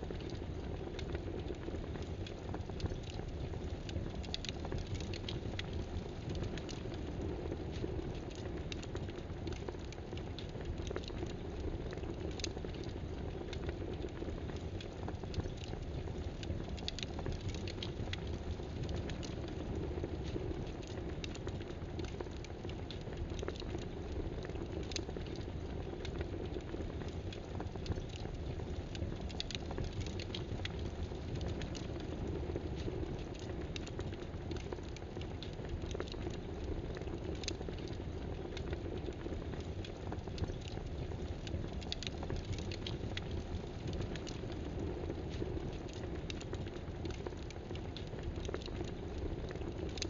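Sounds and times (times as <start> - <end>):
crackling hiss: 0.0 - 50.0.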